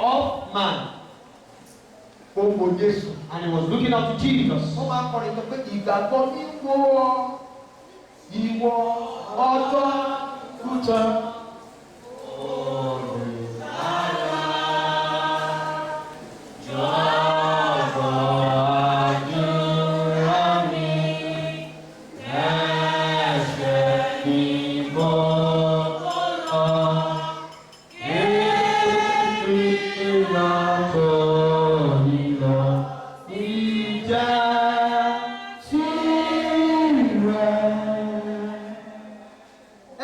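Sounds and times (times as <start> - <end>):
congregation singing unaccompanied: 2.4 - 40.0.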